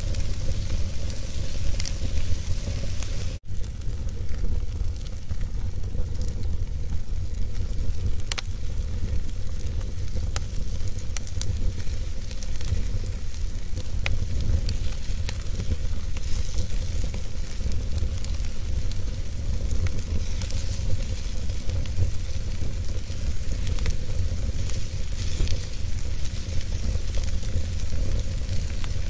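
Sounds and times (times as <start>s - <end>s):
fire crackles and pops: 0.0s - 29.0s
fire rumbling: 0.0s - 29.0s.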